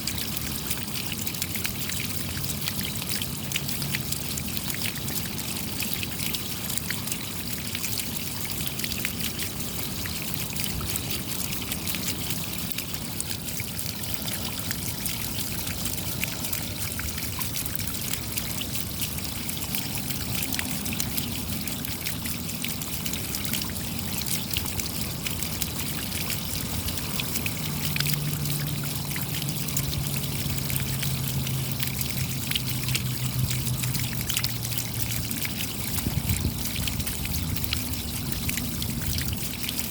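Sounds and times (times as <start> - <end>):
rain patter: 0.0 - 39.9
water trickling: 0.0 - 39.9.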